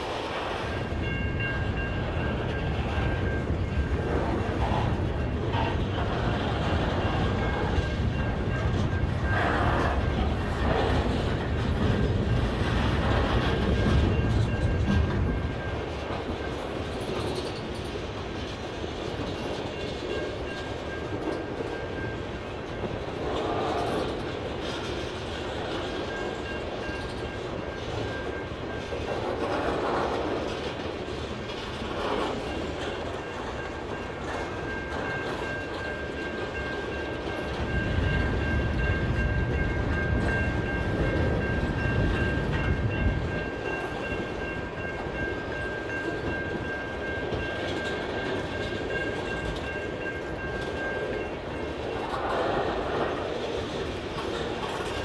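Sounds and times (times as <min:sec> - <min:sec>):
heavy train rumble: 0:00.0 - 0:55.0
train wheels clacking on rails: 0:00.0 - 0:55.0.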